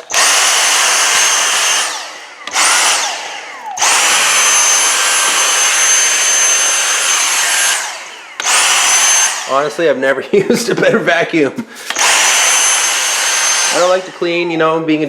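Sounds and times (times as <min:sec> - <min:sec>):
handheld vacuum motor whine: 0:00.0 - 0:09.8, 0:11.6 - 0:14.9.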